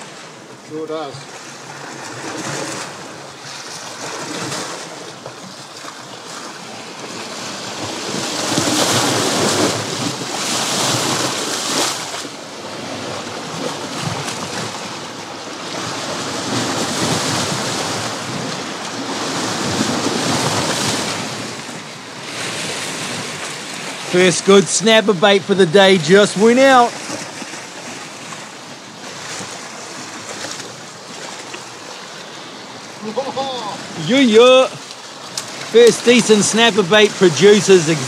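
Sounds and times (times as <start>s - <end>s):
ocean swell washing against rocks: 1.2s - 38.0s.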